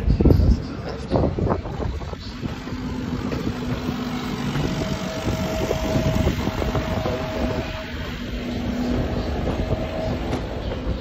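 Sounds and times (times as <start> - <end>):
train rumbling slowly: 0.0 - 11.0.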